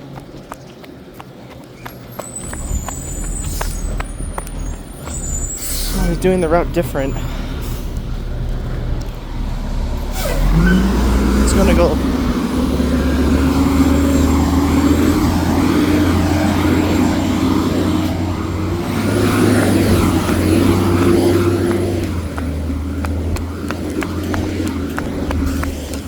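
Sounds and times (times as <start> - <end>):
garbage truck engine revving: 2.2 - 26.0.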